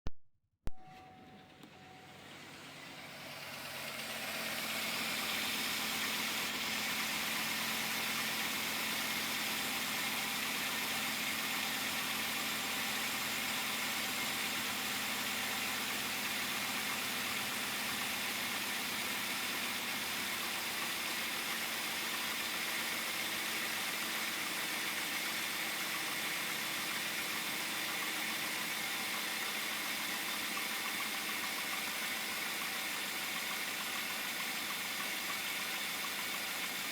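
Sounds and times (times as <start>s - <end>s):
engine idling: 1.2s - 36.9s.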